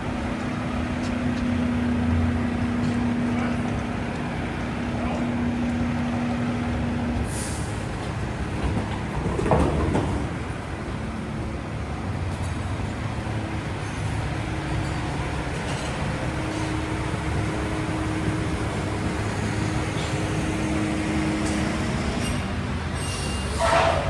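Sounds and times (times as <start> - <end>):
idling engine hum: 0.0 - 23.0
rumble of traffic engines: 0.0 - 24.0.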